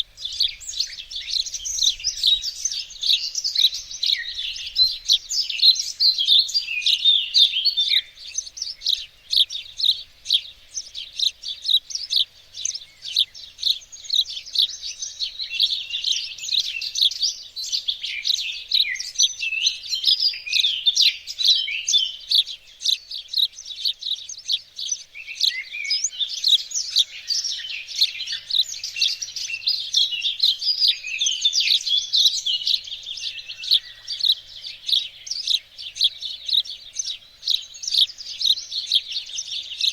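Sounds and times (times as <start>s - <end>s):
songbirds chirping in chorus: 0.0s - 39.9s.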